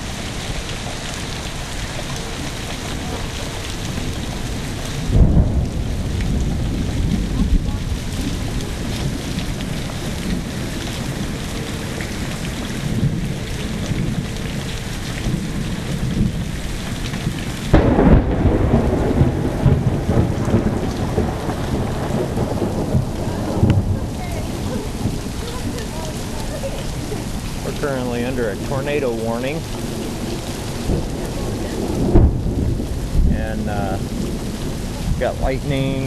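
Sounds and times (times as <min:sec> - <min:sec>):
steady rain falling: 0:00.0 - 0:36.0
thunder clap and rumble: 0:00.0 - 0:36.0.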